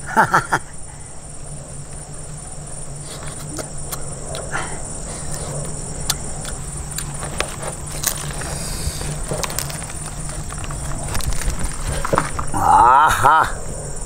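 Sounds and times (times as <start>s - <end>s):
insects droning: 0.0s - 14.0s
low steady hum: 0.0s - 14.0s.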